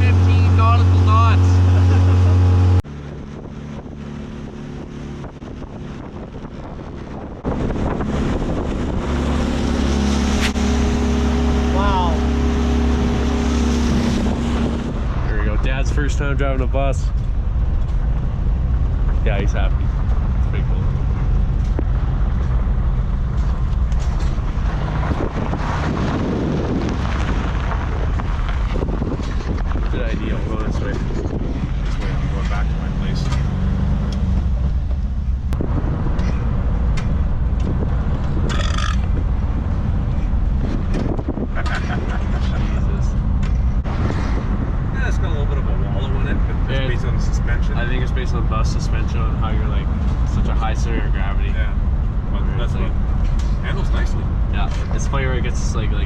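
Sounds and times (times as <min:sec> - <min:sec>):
vehicle engine driving: 0:00.0 - 0:56.0
wind noise on microphone: 0:01.1 - 0:56.0.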